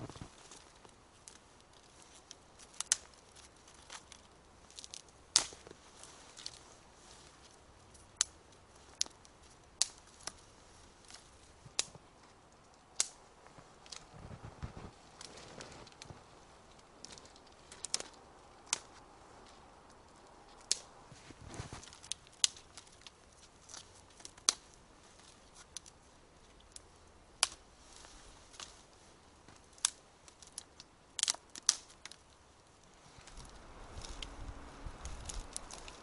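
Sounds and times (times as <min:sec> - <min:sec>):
dry twigs snapping: 0:00.0 - 0:36.0.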